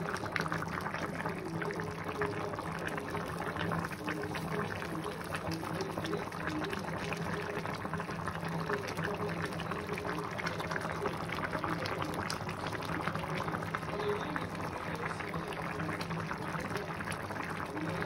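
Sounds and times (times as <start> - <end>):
pot boiling and bubbling: 0.0 - 18.0.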